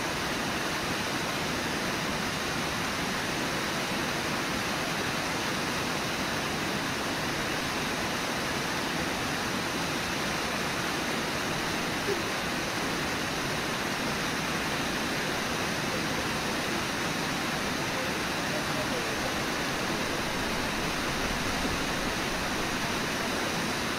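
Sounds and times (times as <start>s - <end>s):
water pouring over a waterfall: 0.0s - 23.9s.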